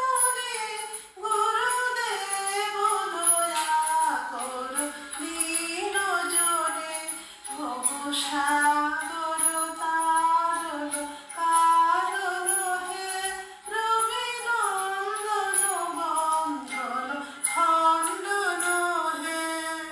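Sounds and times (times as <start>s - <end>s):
woman singing a hymn: 0.0s - 19.9s.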